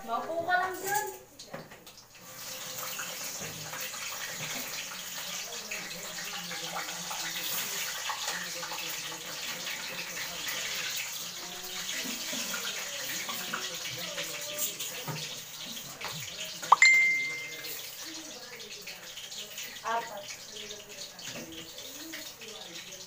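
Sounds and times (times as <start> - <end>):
oil sizzling in a wok: 0.1 - 23.0.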